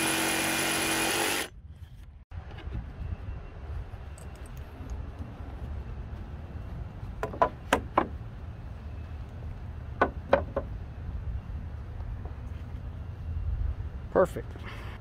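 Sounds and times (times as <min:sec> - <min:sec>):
steady low rumble: 0:01.6 - 0:15.0.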